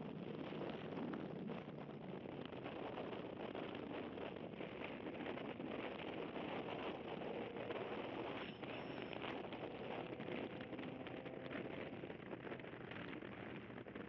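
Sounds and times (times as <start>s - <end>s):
wind noise: 0.0s - 14.0s
road noise: 0.7s - 14.0s.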